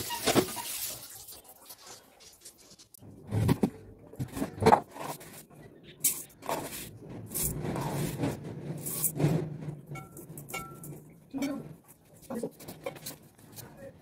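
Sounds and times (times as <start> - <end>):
kitchen utensils scraping and knocking: 0.0 - 1.3, 3.2 - 13.8.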